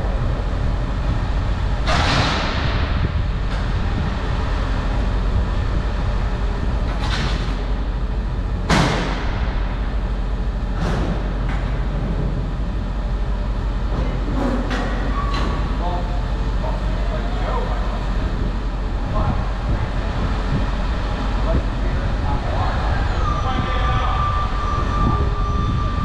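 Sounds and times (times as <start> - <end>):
vehicle rumbling on road: 0.0 - 26.0.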